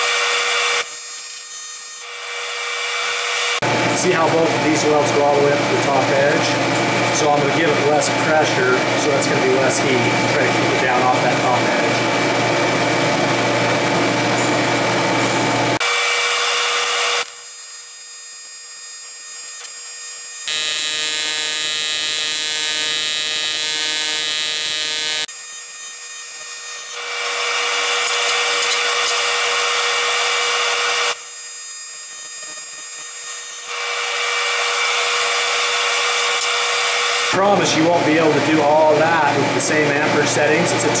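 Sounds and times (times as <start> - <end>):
welding arc buzzing: 0.0 - 37.5.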